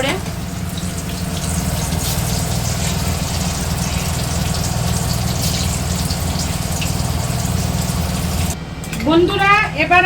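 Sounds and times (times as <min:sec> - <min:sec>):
meat sizzling in hot oil: 0:00.0 - 0:08.6.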